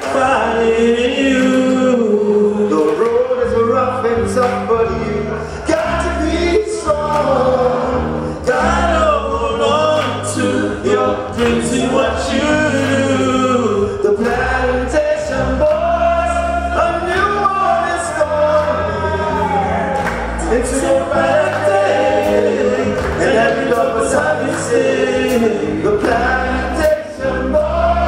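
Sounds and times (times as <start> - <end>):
backing music with bass: 0.0 - 28.0
men singing together: 0.0 - 28.0.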